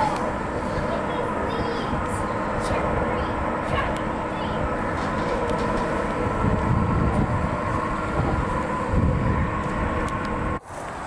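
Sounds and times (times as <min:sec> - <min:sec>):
heavy vehicles rumbling past: 0:00.0 - 0:11.0
held whining tones: 0:00.0 - 0:11.0.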